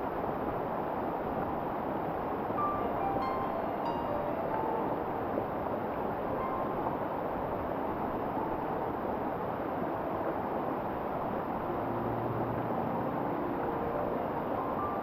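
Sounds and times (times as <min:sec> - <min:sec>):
waterfall rushing: 0:00.2 - 0:15.0.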